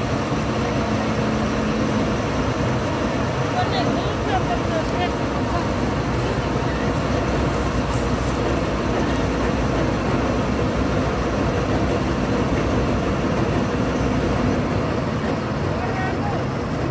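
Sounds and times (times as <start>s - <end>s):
auger discharging grain: 0.0s - 16.9s
combine harvester running: 0.0s - 16.9s.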